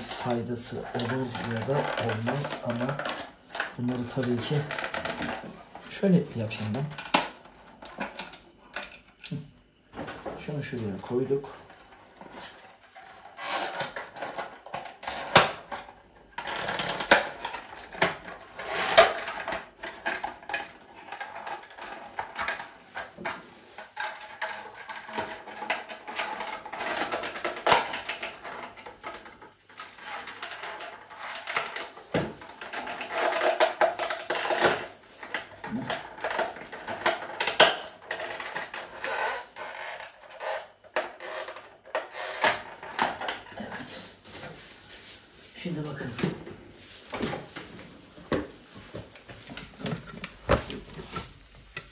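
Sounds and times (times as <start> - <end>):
plastic parts clicking and scraping: 0.0 - 44.0, 47.1 - 51.9.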